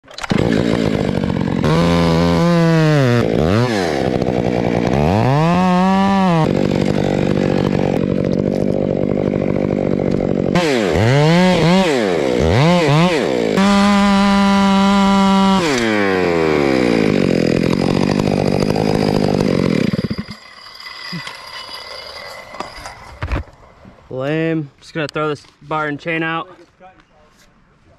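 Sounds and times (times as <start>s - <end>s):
chainsaw revving: 0.1s - 22.6s.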